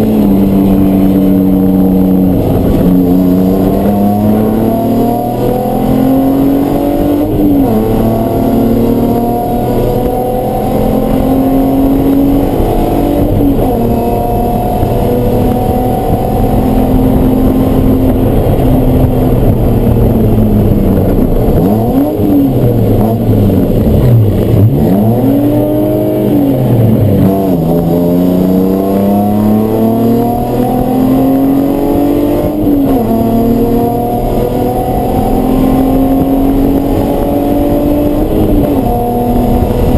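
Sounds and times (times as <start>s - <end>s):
race car engine shifting gears: 0.0s - 39.9s.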